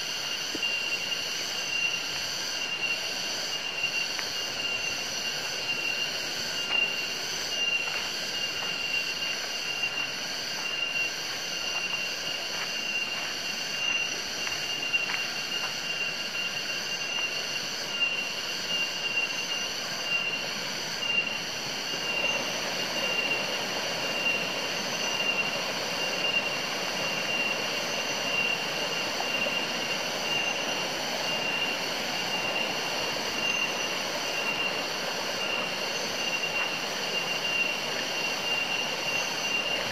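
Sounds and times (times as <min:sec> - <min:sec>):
insect chorus whine: 0:00.0 - 0:39.9.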